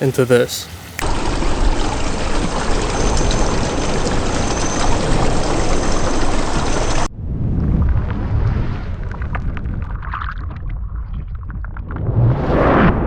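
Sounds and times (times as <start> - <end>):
water pouring and splashing: 0.1 - 7.1, 7.8 - 12.2.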